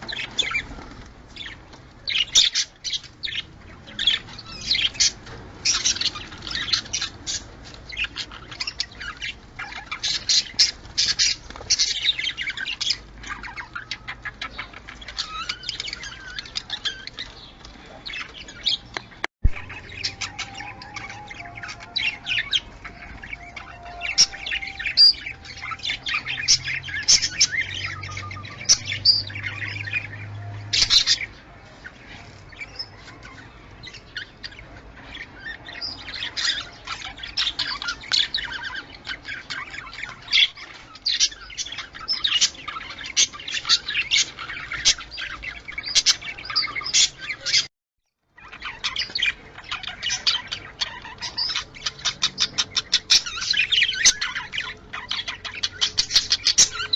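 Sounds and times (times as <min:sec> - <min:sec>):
budgerigars chattering: 0:00.0 - 0:47.7, 0:48.4 - 0:56.9.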